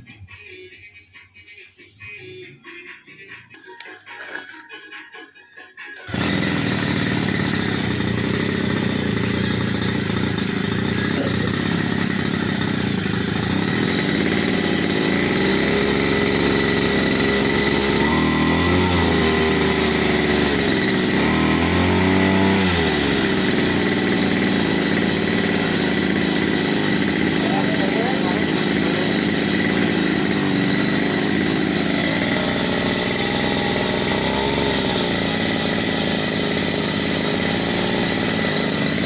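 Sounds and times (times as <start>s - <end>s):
lawn mower engine running: 6.0s - 39.0s.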